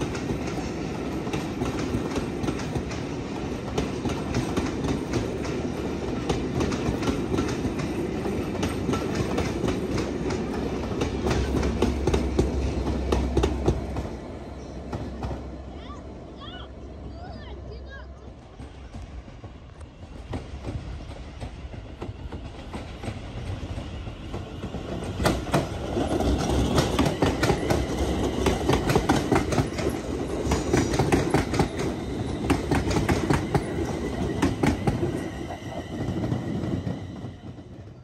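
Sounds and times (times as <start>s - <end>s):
train rumbling on track: 0.0s - 38.0s.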